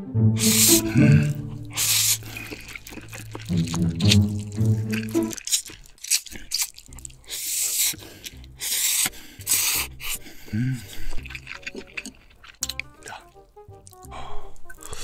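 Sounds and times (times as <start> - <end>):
slurping noodles: 0.4 - 15.0
wet mouth sounds: 0.4 - 15.0.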